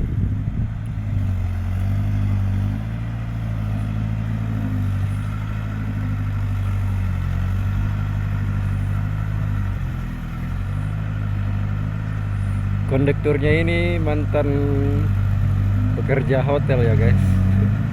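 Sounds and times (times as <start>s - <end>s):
truck diesel engine climbing: 0.0s - 17.9s.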